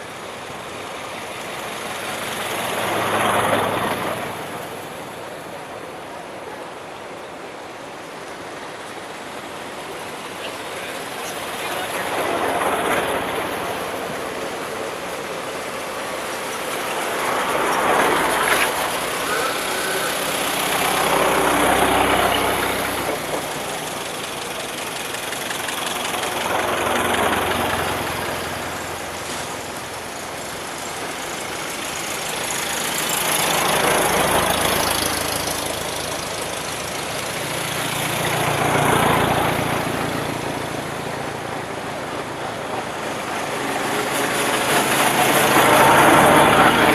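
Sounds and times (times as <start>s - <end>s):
old cars driving past: 0.0s - 46.9s.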